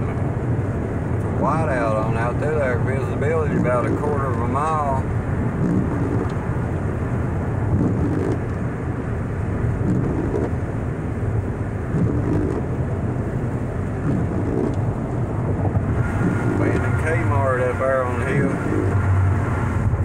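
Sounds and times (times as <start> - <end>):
car road noise on wet pavement: 0.0 - 20.0.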